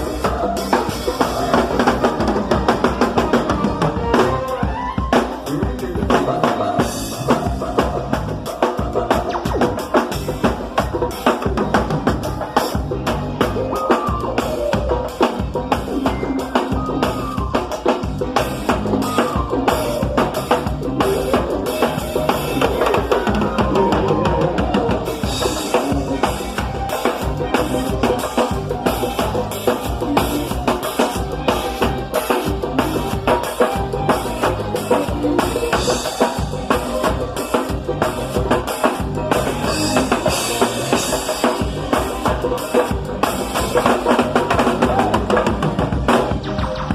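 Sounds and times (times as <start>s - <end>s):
bass drum and snare beat: 0.0s - 46.9s
live band playing: 0.0s - 46.9s.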